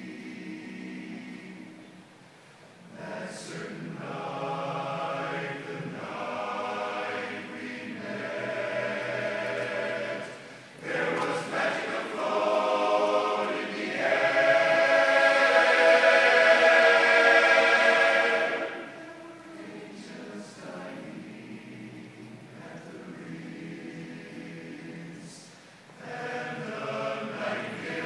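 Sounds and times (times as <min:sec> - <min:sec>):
men's chorus singing a cappella: 0:00.0 - 0:01.8, 0:02.9 - 0:28.0.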